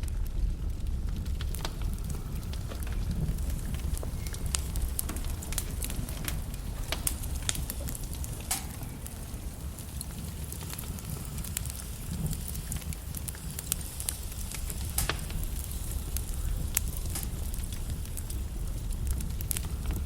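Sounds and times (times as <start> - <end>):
logs crackling in fireplace: 0.0 - 20.0.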